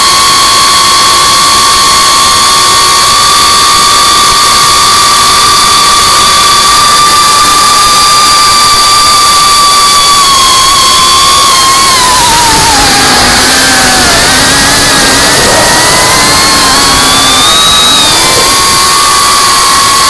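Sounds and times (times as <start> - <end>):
drone motors whining: 0.0 - 20.0
loud hiss: 0.0 - 20.0.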